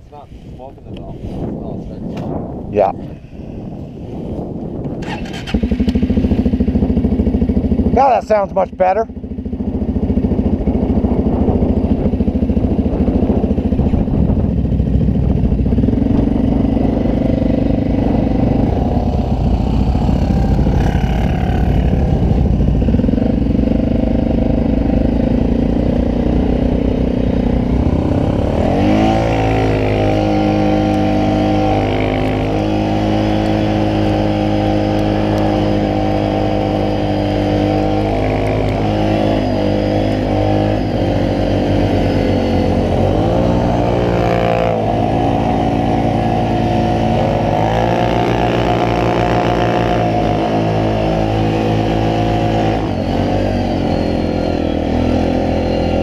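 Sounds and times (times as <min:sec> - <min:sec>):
atv engine revving: 0:04.9 - 0:56.0.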